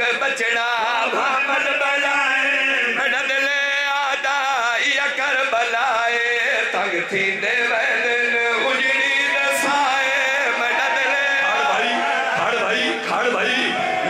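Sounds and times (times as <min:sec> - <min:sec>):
men chanting a mournful lament: 0:00.0 - 0:14.0.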